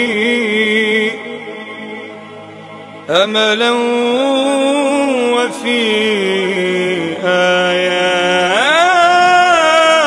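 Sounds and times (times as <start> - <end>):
man singing devotional chant: 0.0 - 2.2, 3.1 - 10.0.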